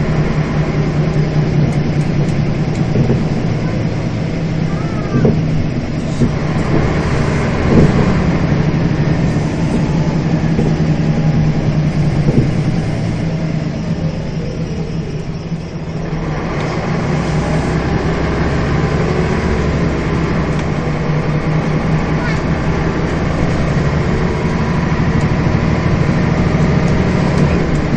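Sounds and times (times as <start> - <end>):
bus diesel engine drone: 0.0 - 27.9.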